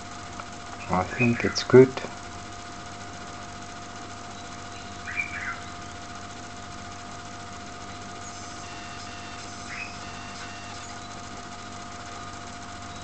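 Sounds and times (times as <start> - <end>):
machine hum with whine: 0.0 - 13.0.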